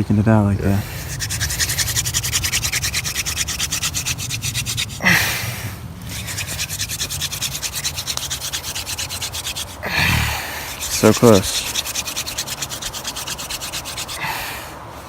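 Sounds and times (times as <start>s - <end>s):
wooden spindle rubbing on board: 0.8s - 5.2s, 6.1s - 14.4s.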